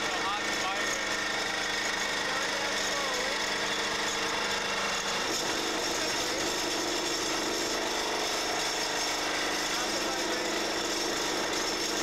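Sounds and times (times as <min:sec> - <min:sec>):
vibratory pile-driving hammer buzzing: 0:00.0 - 0:12.0.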